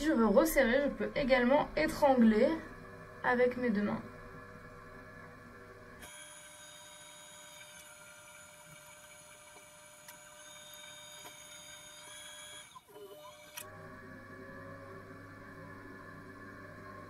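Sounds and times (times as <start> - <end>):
potter's wheel motor whine: 0.0 - 17.0.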